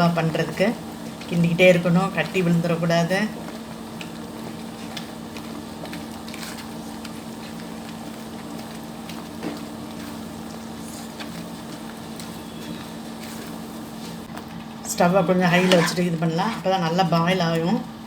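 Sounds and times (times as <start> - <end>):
thick food bubbling and spluttering: 0.2 - 14.8.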